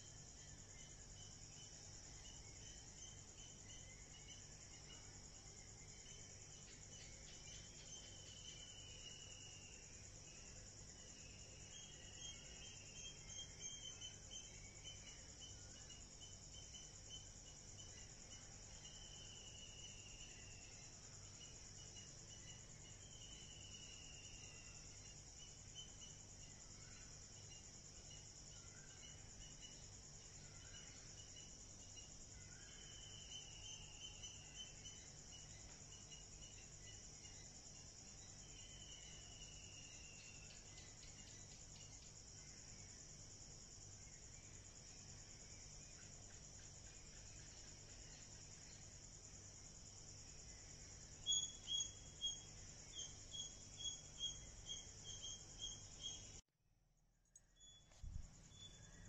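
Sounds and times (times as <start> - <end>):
insects trilling: 0.0 - 56.4, 57.4 - 59.0.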